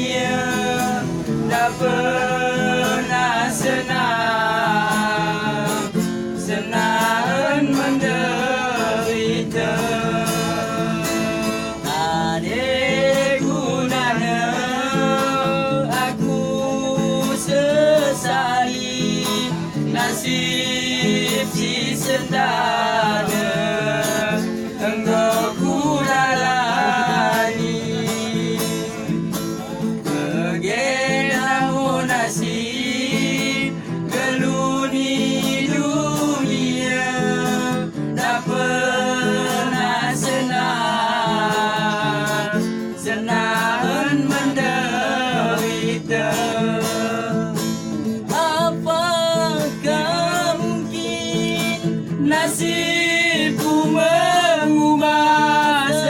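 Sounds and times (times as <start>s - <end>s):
plucked guitar accompaniment: 0.0s - 56.0s.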